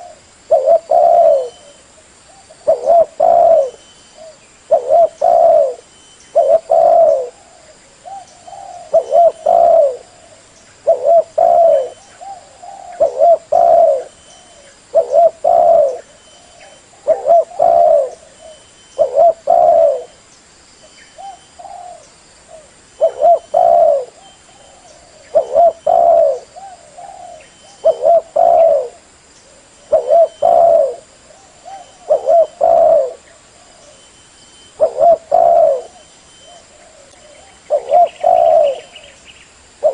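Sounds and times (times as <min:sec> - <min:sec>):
dove cooing: 0:00.0 - 0:20.2, 0:21.2 - 0:39.2.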